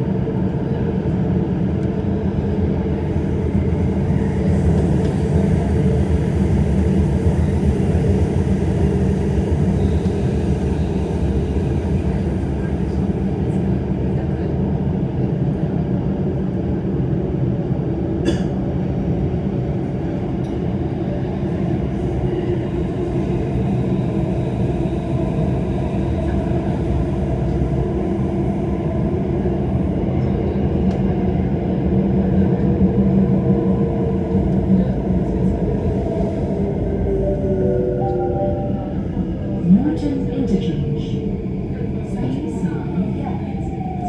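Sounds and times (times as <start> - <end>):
metro train rumbling in tunnel: 0.0 - 44.0.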